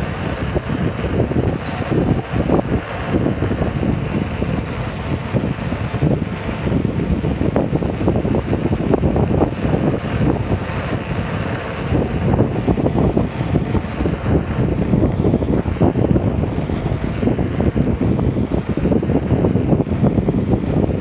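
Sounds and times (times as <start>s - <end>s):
tyre and road rumble: 0.0s - 21.0s
wind buffeting microphone: 0.0s - 21.0s.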